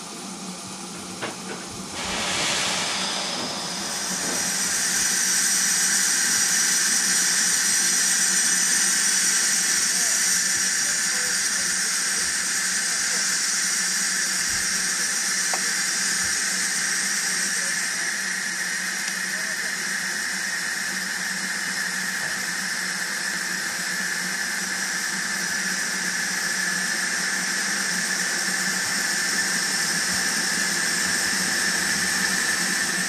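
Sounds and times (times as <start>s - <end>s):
steam locomotive hissing steam: 0.0s - 33.0s.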